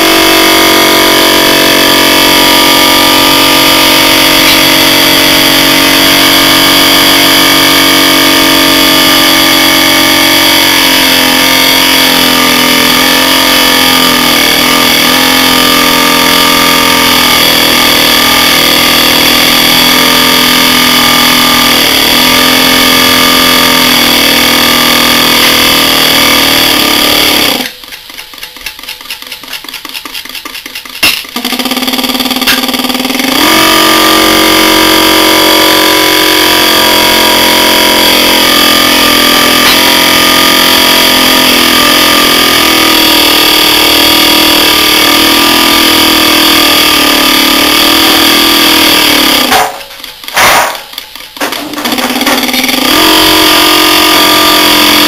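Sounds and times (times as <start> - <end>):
fast ticking: 0.0 - 55.0.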